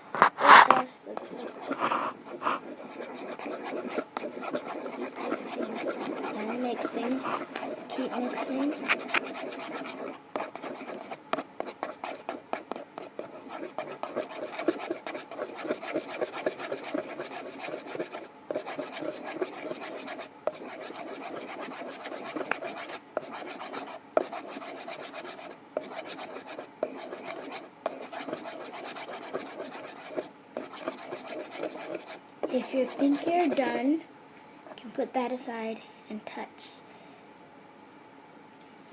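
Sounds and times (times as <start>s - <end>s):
utensil scraping a bowl: 0.2s - 33.8s.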